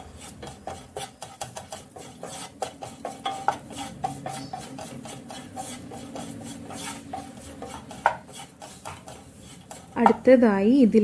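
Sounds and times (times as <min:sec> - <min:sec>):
spatula scraping and stirring in a pan: 0:00.0 - 0:11.0.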